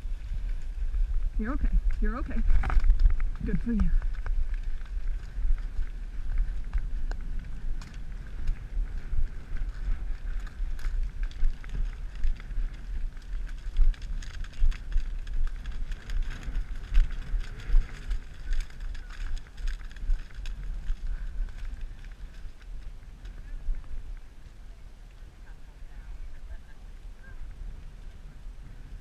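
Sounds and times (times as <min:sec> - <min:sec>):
hooves crunching on stubble: 0:00.0 - 0:26.3
wind on camera: 0:00.0 - 0:29.0.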